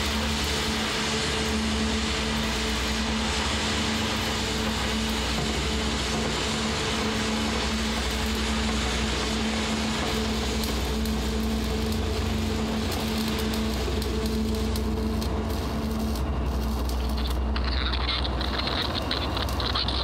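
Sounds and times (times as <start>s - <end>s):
industrial machinery drone: 0.0s - 20.0s.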